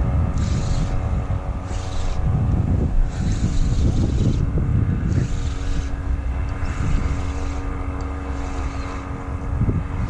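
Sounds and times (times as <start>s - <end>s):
distant engine hum: 0.0s - 10.0s
wind buffeting microphone: 0.0s - 10.0s.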